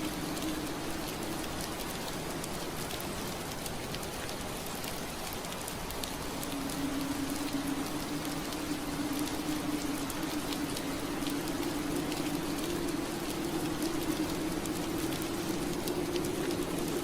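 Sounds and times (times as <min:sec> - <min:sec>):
rain pattering on window: 0:00.0 - 0:17.0.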